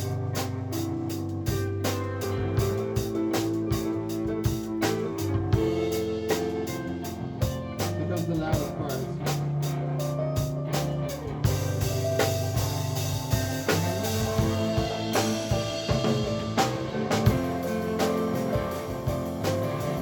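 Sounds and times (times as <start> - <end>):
drums beating: 0.0 - 20.0.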